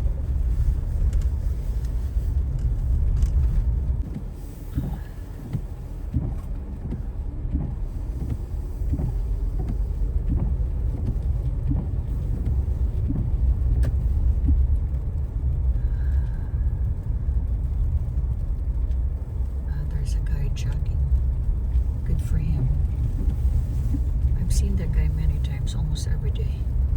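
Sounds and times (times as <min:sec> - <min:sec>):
car road and engine rumble: 0:00.0 - 0:26.9.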